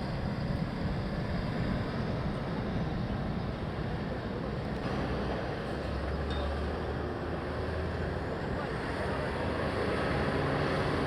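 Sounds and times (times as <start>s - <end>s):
road noise: 0.0s - 11.0s
truck engines running: 0.0s - 11.0s.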